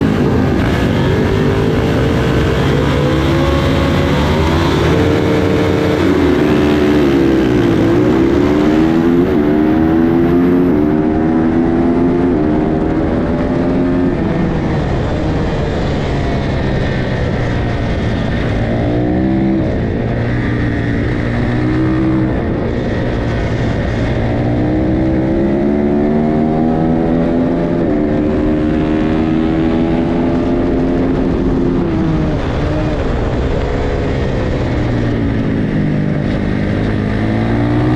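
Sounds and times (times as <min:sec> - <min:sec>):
motorcycles accelerating: 0:00.0 - 0:37.9.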